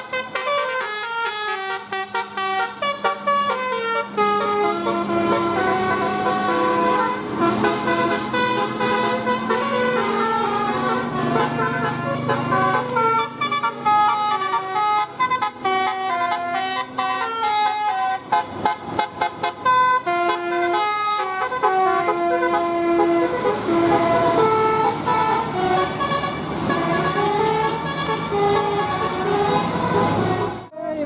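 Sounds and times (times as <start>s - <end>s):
tuned bus horns playing tune: 0.0s - 30.7s.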